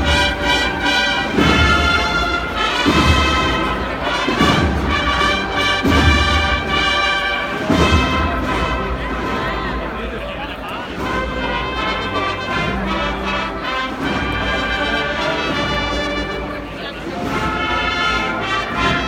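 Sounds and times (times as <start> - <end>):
heavy drum beat: 0.0 - 16.5
brass band playing a march: 0.0 - 19.0.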